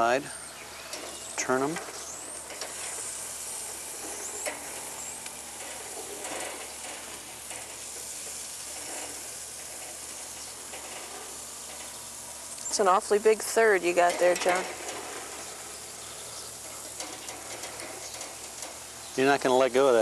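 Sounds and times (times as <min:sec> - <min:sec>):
pineapple sizzling on a grill: 0:00.0 - 0:20.0.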